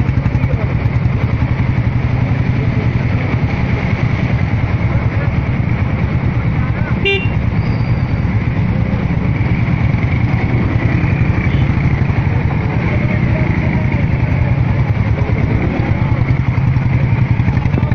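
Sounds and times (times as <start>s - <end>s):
motorcycle engines idling: 0.0s - 17.9s.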